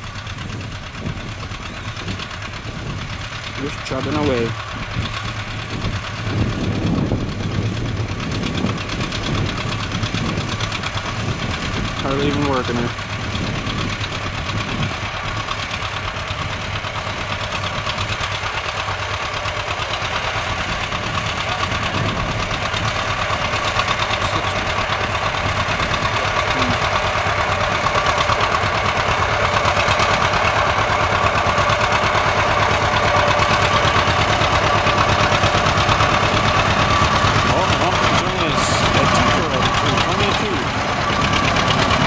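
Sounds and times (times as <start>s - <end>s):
tractor engine chugging: 0.0s - 42.0s.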